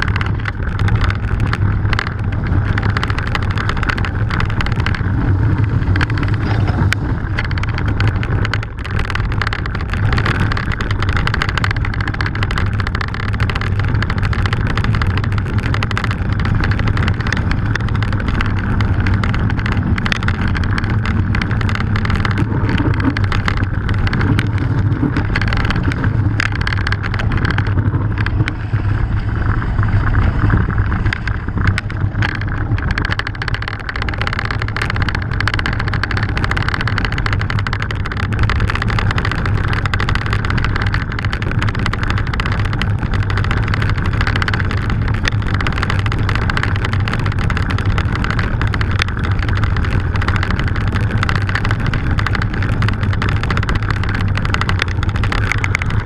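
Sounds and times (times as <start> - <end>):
bike rattling: 0.0 - 56.0
tyres rumbling on gravel: 0.0 - 56.0
wind buffeting microphone: 0.0 - 56.0.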